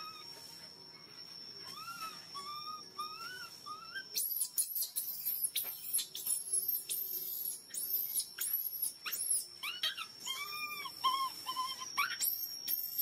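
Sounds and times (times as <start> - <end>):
baby monkey crying: 1.7 - 13.0.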